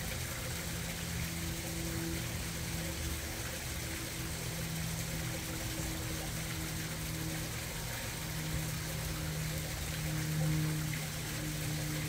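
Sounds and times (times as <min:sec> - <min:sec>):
steady low hum: 0:00.0 - 0:12.0
waterfall splashing into pond: 0:00.0 - 0:12.0.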